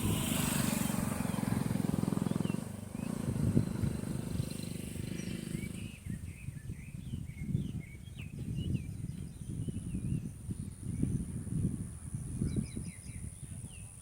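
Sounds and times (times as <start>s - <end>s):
low pulsing rumble: 0.0s - 13.8s
small birds chirping: 0.0s - 14.0s.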